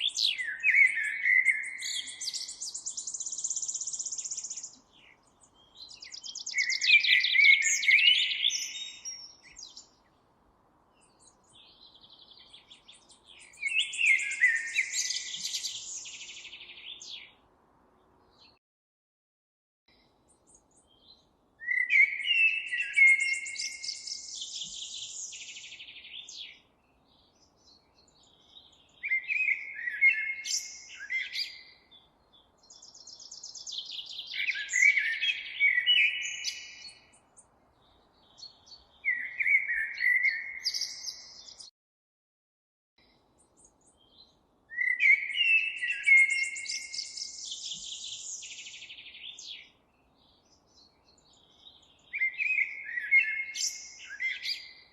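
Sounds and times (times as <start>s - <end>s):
songbird singing with buzzy trill: 0.0s - 10.3s, 10.9s - 18.6s, 19.9s - 41.7s, 43.0s - 54.9s.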